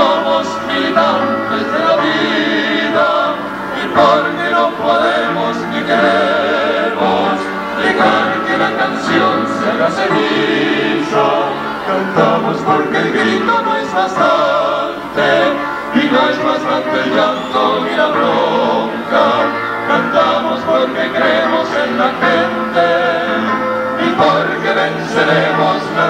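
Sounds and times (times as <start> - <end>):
male vocal quartet singing: 0.0 - 26.0.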